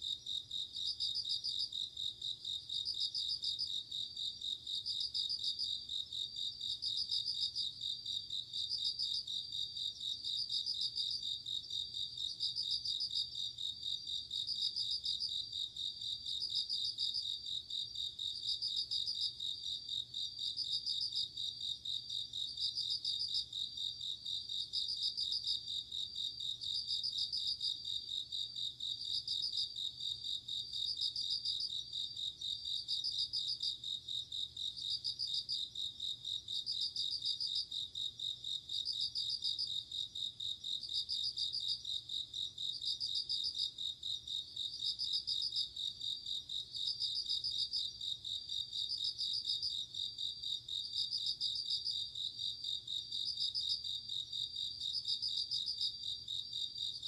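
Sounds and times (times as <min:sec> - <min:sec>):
rapid cricket chirps: 0:00.0 - 0:57.0.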